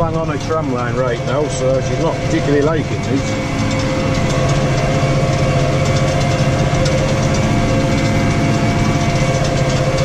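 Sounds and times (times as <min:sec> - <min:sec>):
tractor engine labouring: 0:00.0 - 0:10.0.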